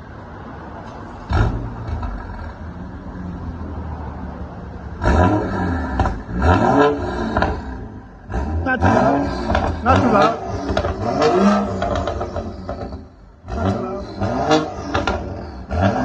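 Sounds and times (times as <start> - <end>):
car engine starting and idling: 0.0 - 16.0
engine revving: 1.2 - 4.0, 4.9 - 16.0.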